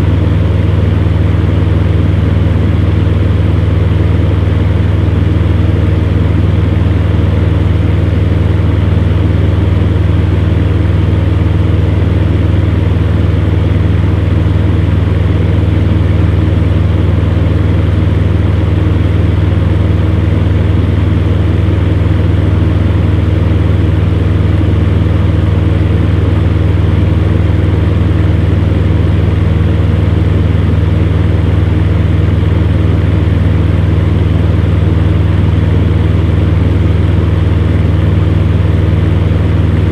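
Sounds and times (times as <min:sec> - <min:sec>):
fan heater running: 0:00.0 - 0:39.9.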